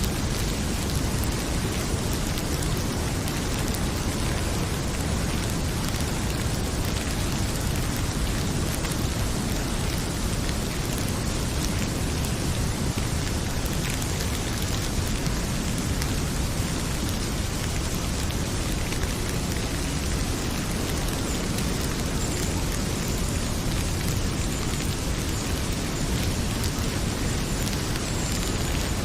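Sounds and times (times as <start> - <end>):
heavy rain pouring: 0.0 - 29.0
wood fire crackling: 0.0 - 29.0.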